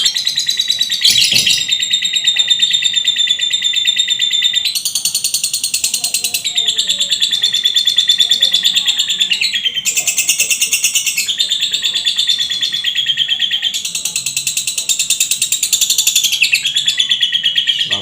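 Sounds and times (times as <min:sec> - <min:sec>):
songbird rapid trill: 0:00.0 - 0:18.0.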